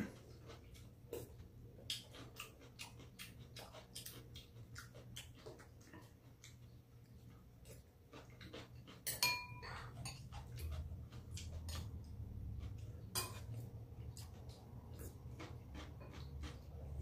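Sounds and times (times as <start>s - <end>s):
low steady hum: 0.0s - 17.0s
chewing smacks: 0.1s - 9.1s, 9.7s - 17.0s.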